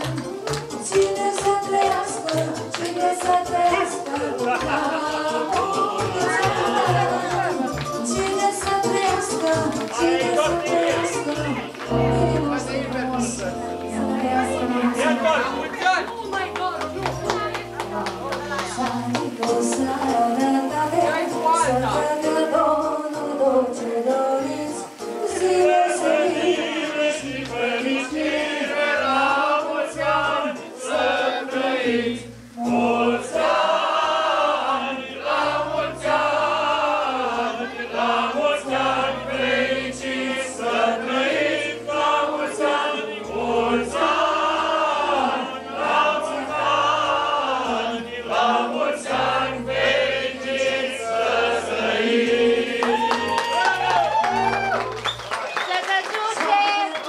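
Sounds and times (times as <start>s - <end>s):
group of voices singing: 0.0s - 15.8s, 17.9s - 54.0s.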